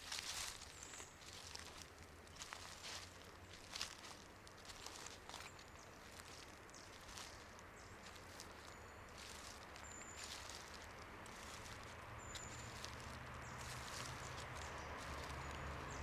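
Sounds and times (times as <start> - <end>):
footsteps on leaves: 0.0 - 16.0.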